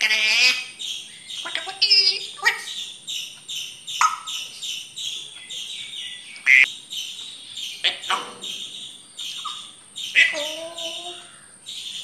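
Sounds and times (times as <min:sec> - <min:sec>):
parrot calling: 0:00.0 - 0:12.0.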